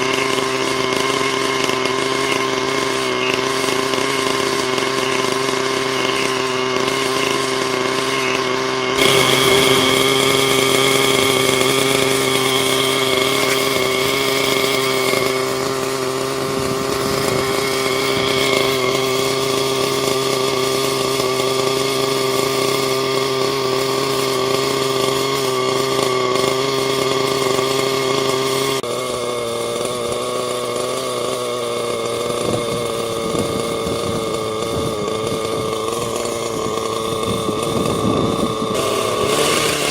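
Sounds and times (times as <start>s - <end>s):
model helicopter engine running: 0.0s - 39.9s.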